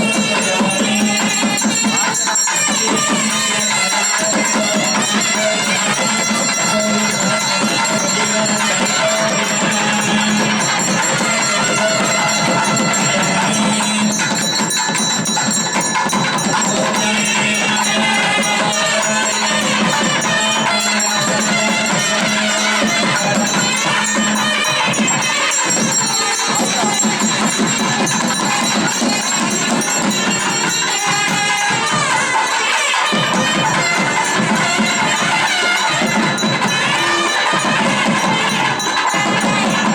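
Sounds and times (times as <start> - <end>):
jingling percussion: 0.0 - 39.9
reed pipe melody: 0.0 - 39.9.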